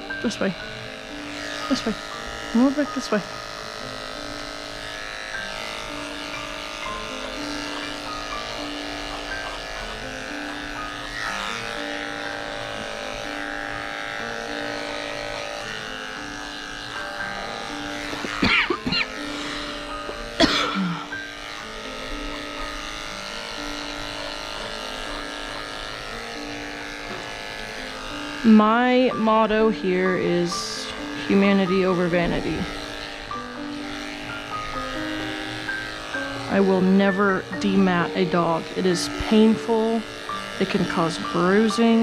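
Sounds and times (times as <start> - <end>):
background music: 0.0 - 42.0
electric pet clippers running: 0.0 - 42.0.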